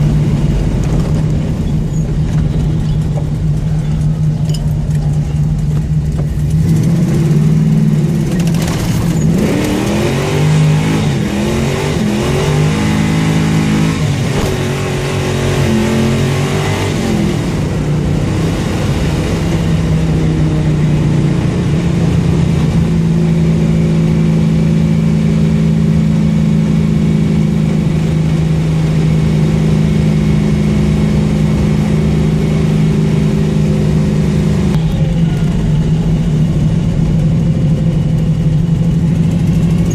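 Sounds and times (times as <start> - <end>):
car engine with exhaust leak revving: 0.0 - 39.9.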